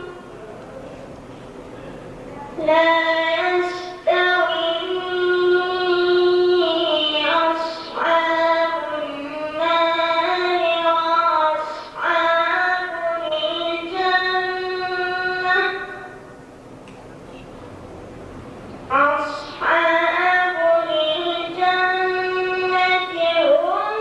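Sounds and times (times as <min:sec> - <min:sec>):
boy chanting into a microphone: 0:00.0 - 0:00.4, 0:02.3 - 0:16.4, 0:18.9 - 0:24.0.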